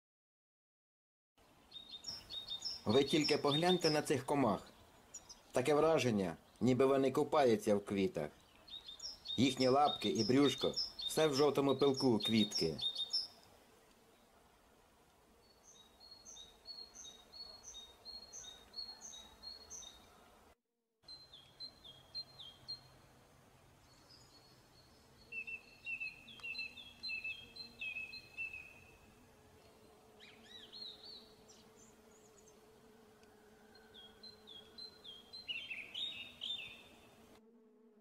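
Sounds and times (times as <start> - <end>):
songbirds chirping: 1.4 - 37.4.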